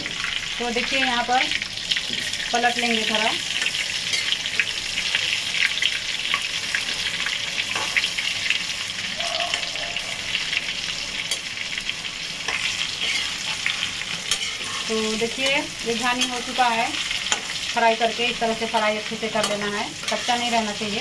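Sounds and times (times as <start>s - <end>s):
deep-frying sizzle with pops: 0.0s - 21.0s.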